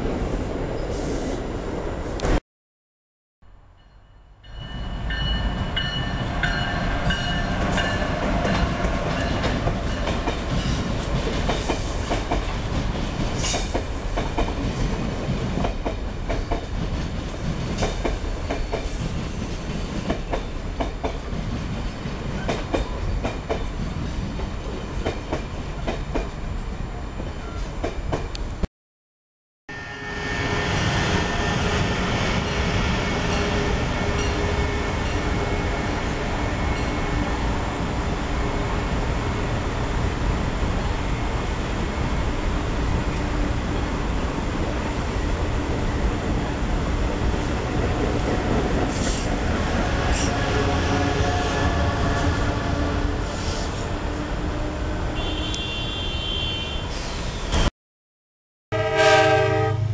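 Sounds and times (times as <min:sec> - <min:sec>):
train passing rumble: 0:03.5 - 0:28.6, 0:29.9 - 0:55.8.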